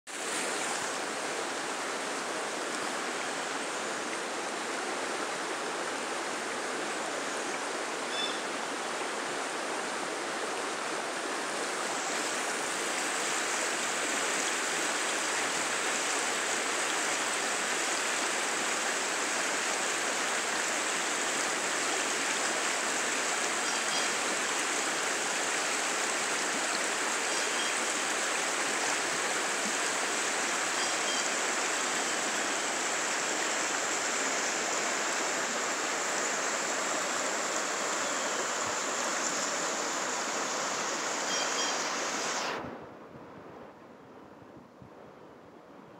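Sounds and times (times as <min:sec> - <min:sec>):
river flowing over rocks: 0:00.1 - 0:42.9.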